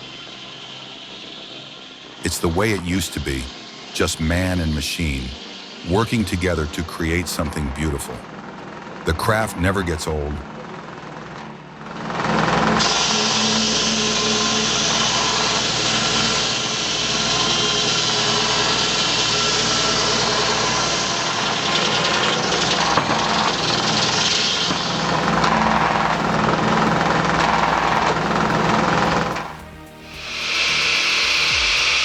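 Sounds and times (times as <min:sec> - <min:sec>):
firewood cutting machine running: 0:00.0 - 0:32.0.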